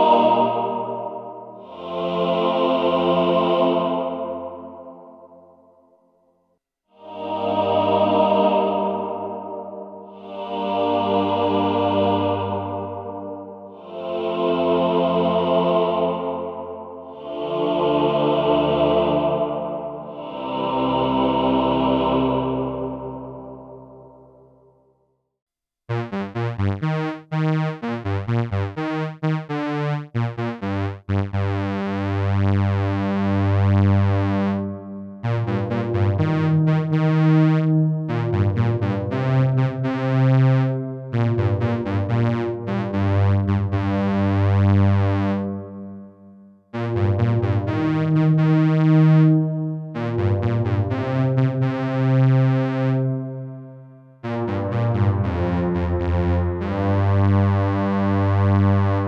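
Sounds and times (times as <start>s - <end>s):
synthesizer chords with reverb: 0.0s - 5.6s, 7.0s - 24.6s, 25.9s - 59.0s.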